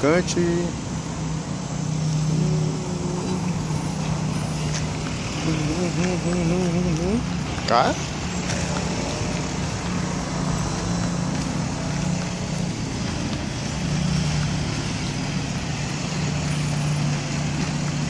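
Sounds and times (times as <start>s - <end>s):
street noise: 0.0s - 18.0s
vehicle engine idling: 0.0s - 18.0s.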